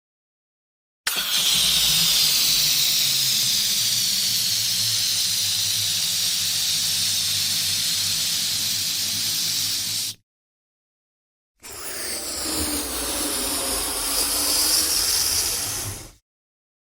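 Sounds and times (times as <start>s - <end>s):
electric balloon inflator blowing air: 1.1s - 10.2s, 11.6s - 16.2s.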